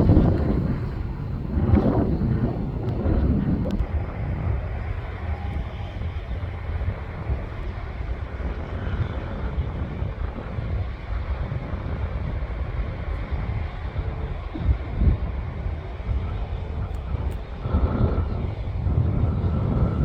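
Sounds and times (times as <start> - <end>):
airliner engines: 0.0 - 20.0
wind rumbling on microphone: 0.0 - 20.0.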